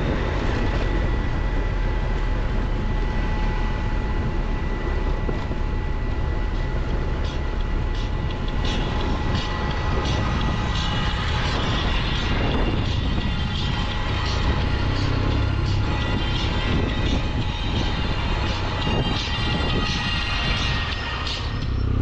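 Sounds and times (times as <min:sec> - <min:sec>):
heavy wind: 0:00.0 - 0:22.0
motorcycle engine running: 0:00.0 - 0:22.0
road rumble: 0:00.0 - 0:22.0.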